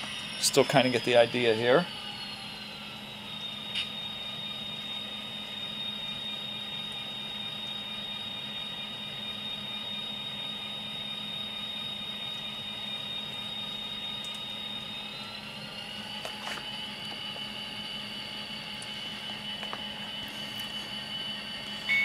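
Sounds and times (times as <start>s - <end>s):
model locomotive engine sound: 0.0s - 22.0s.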